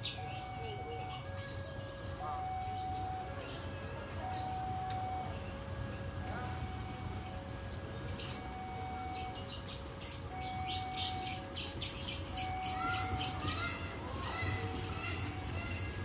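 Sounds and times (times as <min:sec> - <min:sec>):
birds chirping: 0:00.0 - 0:16.0
low steady rumble: 0:00.0 - 0:16.0.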